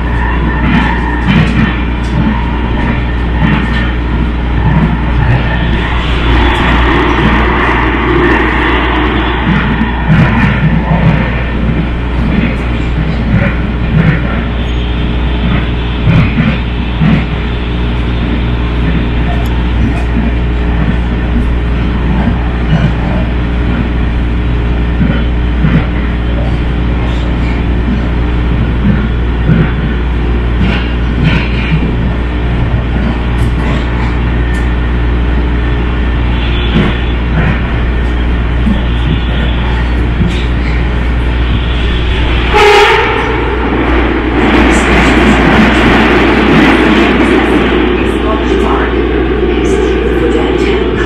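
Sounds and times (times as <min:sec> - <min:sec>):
rail car rumbling: 0:00.0 - 0:51.0.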